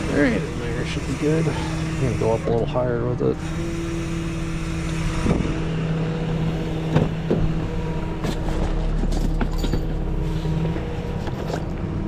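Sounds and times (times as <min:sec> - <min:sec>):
tow truck engine and hydraulics humming: 0:00.0 - 0:12.0.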